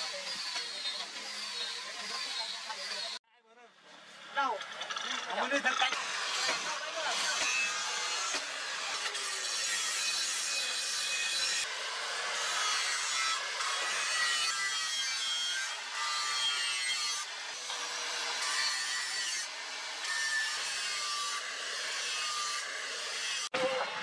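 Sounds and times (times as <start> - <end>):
angle grinder grinding steel: 0.0 - 3.2, 4.4 - 24.0.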